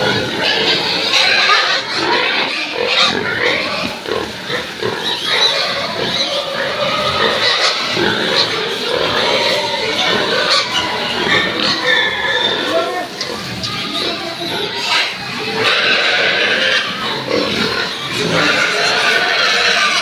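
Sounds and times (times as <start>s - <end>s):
pigs grunting and squealing: 0.0s - 20.0s.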